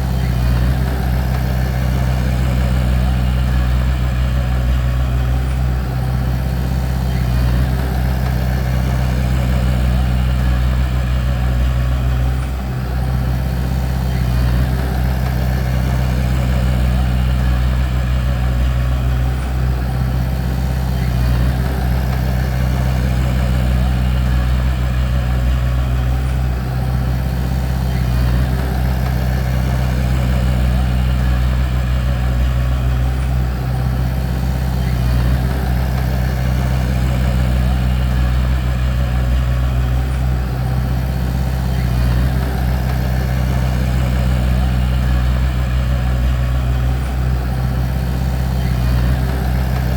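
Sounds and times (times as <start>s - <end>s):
bulldozer diesel engine droning: 0.0s - 49.9s.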